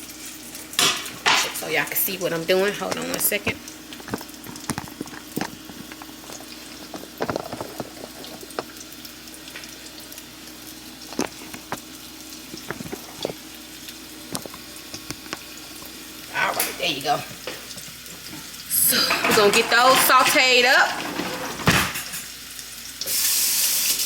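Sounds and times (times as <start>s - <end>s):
vegetables sizzling in a skillet: 0.0s - 6.9s, 8.4s - 24.0s.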